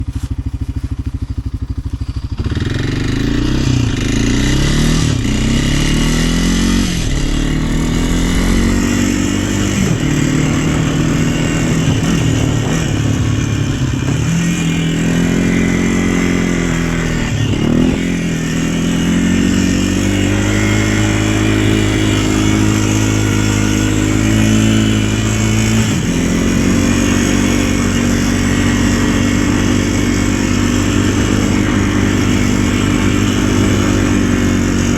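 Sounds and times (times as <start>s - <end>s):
vehicle engine accelerating: 0.0s - 34.9s.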